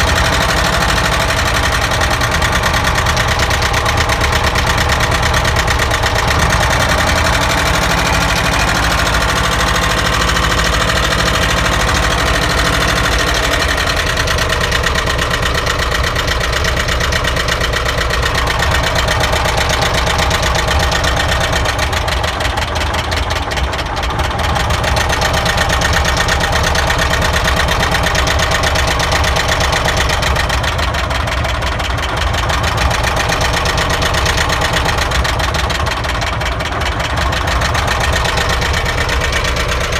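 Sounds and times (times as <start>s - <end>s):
car engine idling with a knock: 0.0s - 39.9s.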